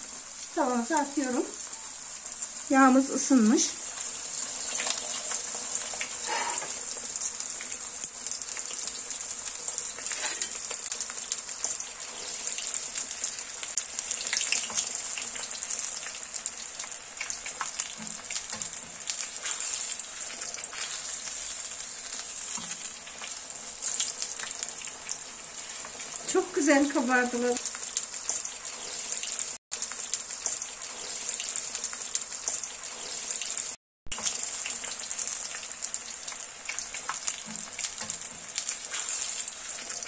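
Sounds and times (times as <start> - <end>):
pastries frying in hot oil: 0.0 - 40.0.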